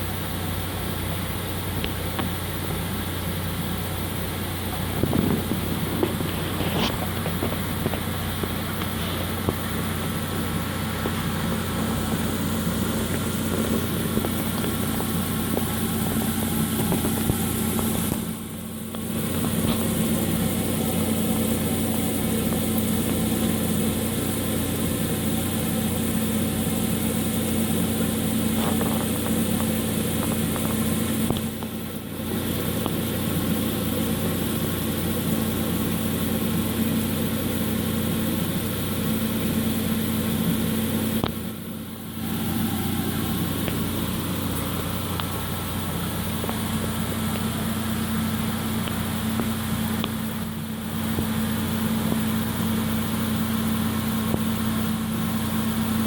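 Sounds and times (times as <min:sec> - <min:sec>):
mechanical hum: 0:00.0 - 0:56.0.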